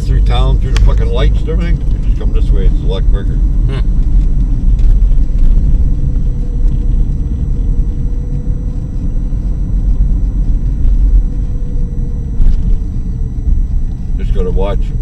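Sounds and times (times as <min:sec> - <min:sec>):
car engine and road noise: 0:00.0 - 0:15.0
faint steady whine: 0:00.0 - 0:15.0.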